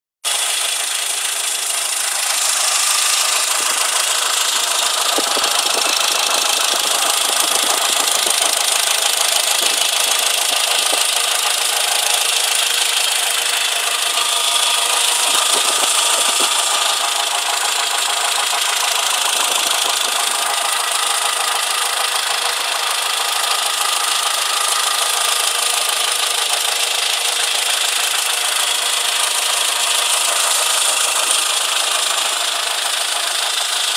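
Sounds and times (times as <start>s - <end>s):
engine running with a knock: 0.3s - 33.9s.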